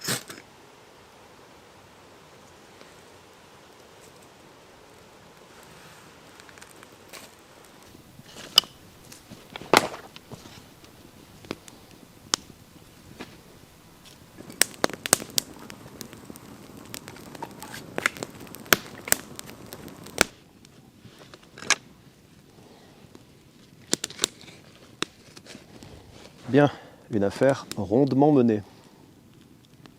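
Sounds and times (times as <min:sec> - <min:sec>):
wood fire crackling and popping: 0:02.0 - 0:29.9.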